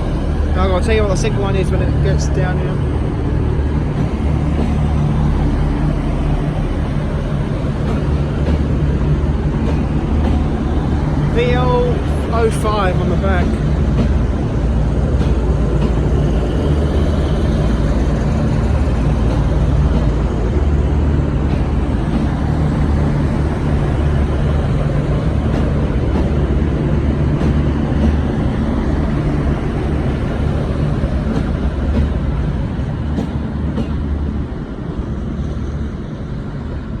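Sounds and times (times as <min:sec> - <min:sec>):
diesel train engine droning: 0:00.0 - 0:37.0.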